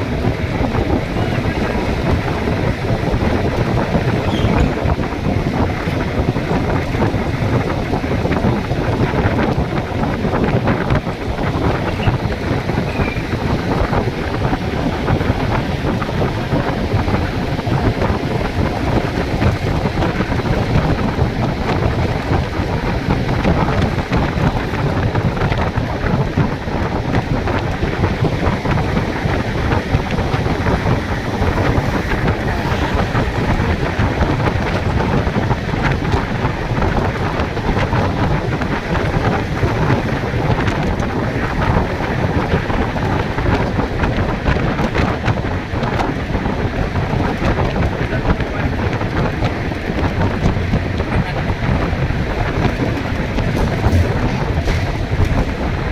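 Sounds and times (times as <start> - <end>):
road noise: 0.0 - 55.9
vehicle rumble: 0.0 - 55.9
wind buffeting microphone: 0.0 - 55.9.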